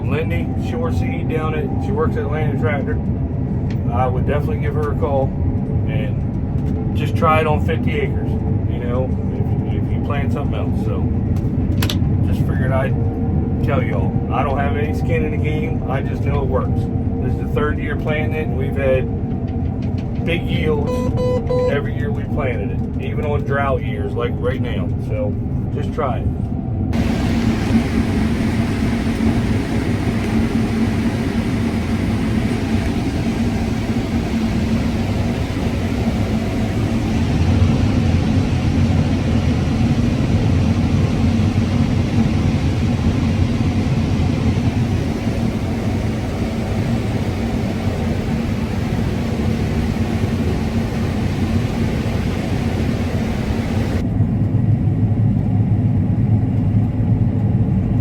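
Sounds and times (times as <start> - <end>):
combine harvester rumble: 0.0 - 58.0.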